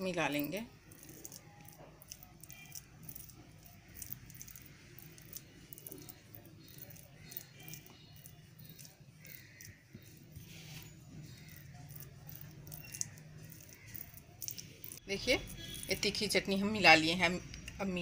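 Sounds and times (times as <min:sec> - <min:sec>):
sauce spreading scrapes: 0:00.8 - 0:15.9.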